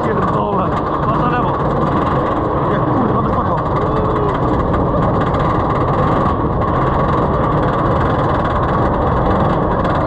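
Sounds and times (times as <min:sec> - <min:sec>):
roller coaster lift rumble: 0:00.0 - 0:10.0.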